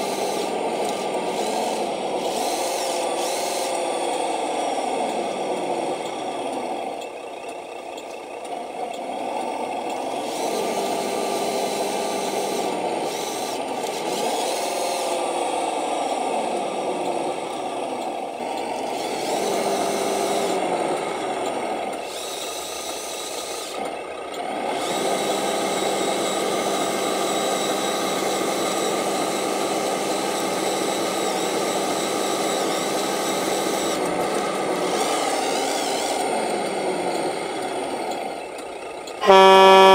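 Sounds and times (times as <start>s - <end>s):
model truck electric motor whining: 0.0s - 39.9s.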